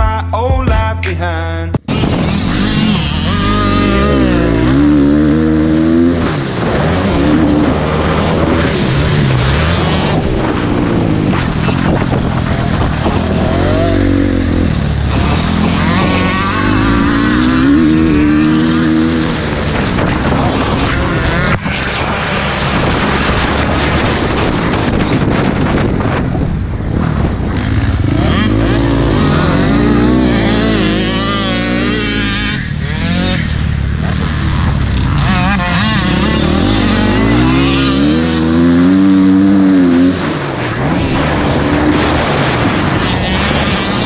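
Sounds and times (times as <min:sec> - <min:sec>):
dirt bike engine revving: 0:01.9 - 0:44.0.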